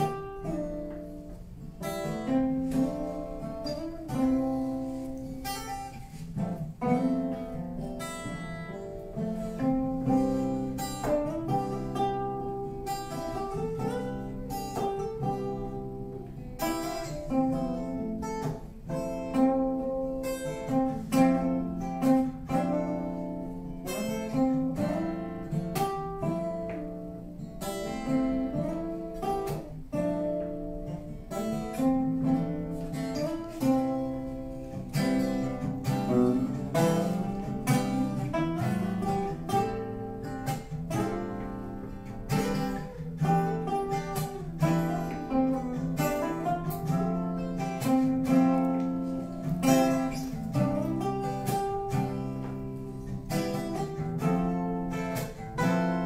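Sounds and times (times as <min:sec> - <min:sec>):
acoustic guitar duet: 0:00.0 - 0:56.0.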